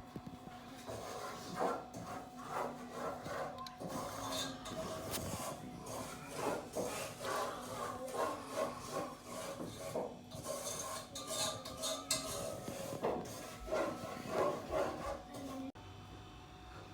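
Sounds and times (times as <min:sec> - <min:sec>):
scraping and rubbing strokes: 0:00.3 - 0:15.8.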